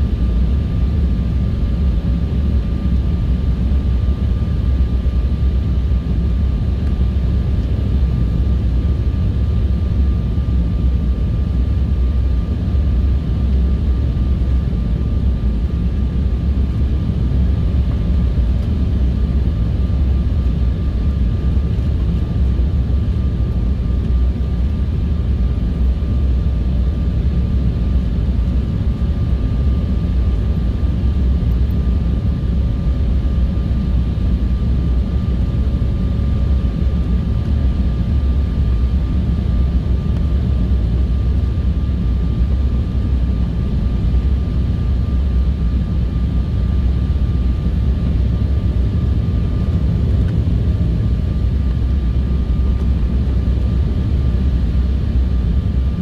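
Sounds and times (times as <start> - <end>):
jet engines rumbling: 0.0 - 56.0
thin steady whine: 0.0 - 56.0.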